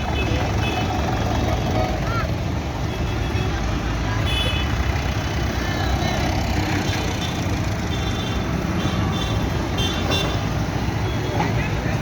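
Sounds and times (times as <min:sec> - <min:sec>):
tractor engines driving past: 0:00.0 - 0:12.0.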